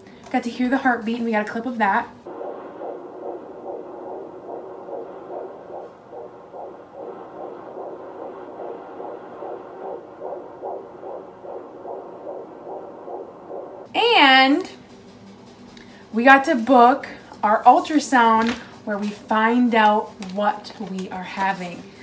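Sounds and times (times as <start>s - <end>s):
fetal heartbeat whooshing pulse: 0.4s - 22.0s.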